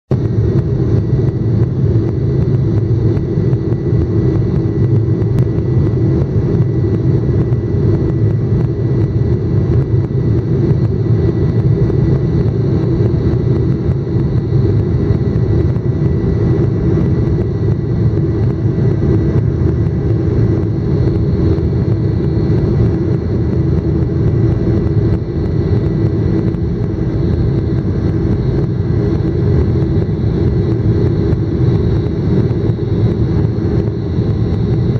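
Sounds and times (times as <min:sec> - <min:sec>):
jet engines droning in cabin: 0:00.1 - 0:34.9.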